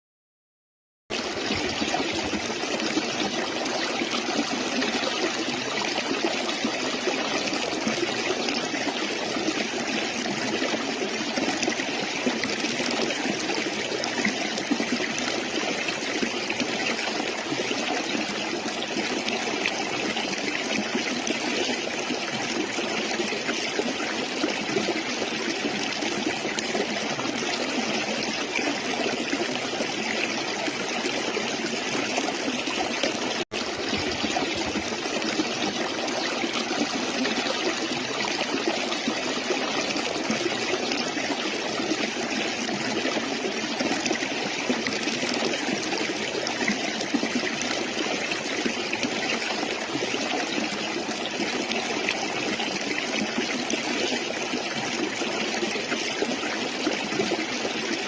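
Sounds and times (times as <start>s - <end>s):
stream water trickling: 1.1s - 58.0s.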